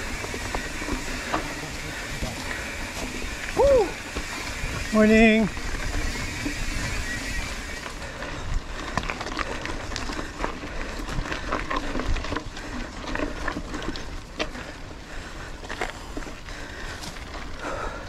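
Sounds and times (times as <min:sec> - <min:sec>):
bike rattling clicks and knocks: 0:00.0 - 0:18.0
tyres on packed dirt: 0:00.0 - 0:18.0.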